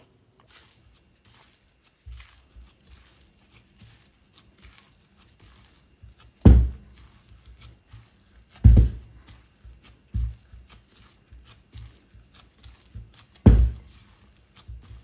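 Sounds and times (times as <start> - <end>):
dough squishing: 0.0 - 15.0
heavy thumps of dough in bowl: 0.5 - 15.0.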